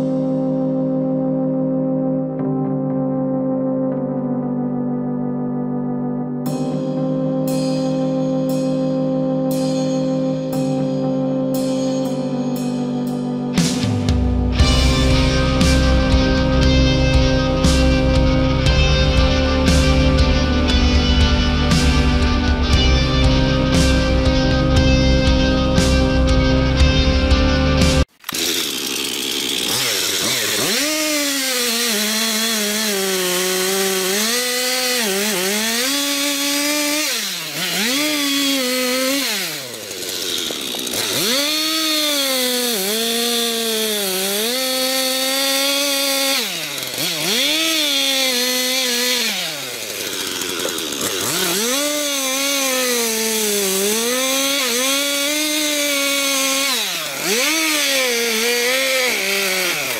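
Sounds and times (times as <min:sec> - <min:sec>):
chainsaw cutting wood: 0:09.1 - 0:59.9.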